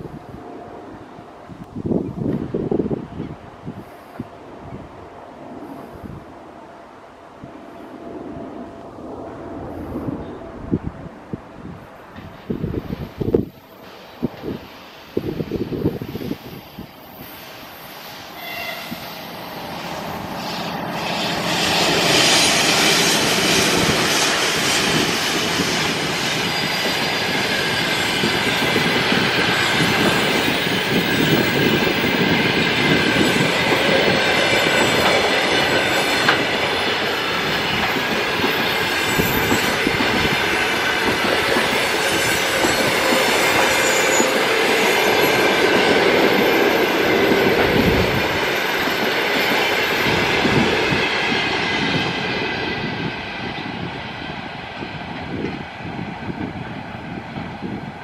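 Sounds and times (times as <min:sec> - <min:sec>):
train wheels on rails: 0:00.0 - 0:06.6, 0:07.3 - 0:58.0.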